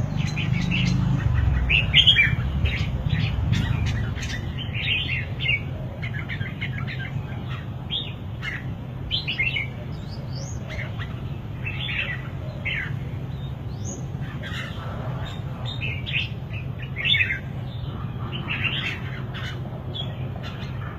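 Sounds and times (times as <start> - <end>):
bird singing warbled phrases: 0.0 - 20.9
steady low hum: 0.0 - 20.9.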